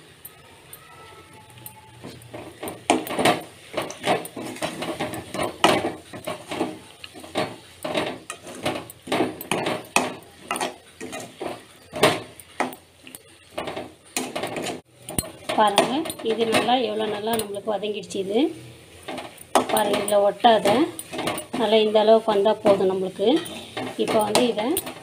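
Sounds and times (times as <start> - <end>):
food sauteing in oil: 0.0 - 25.0
metal spatula scraping pan: 1.6 - 25.0.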